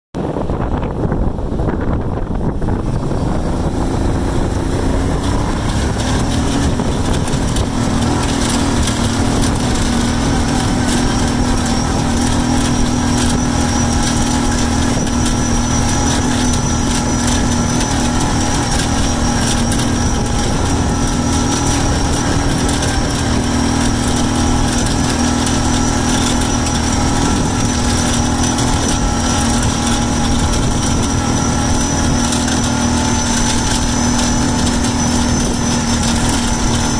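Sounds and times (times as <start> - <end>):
small vehicle engine running: 0.2 - 36.9.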